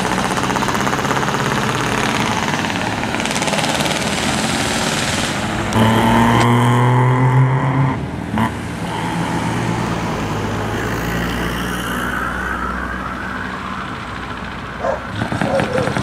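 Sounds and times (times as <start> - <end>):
diesel truck engines running: 0.0 - 16.0.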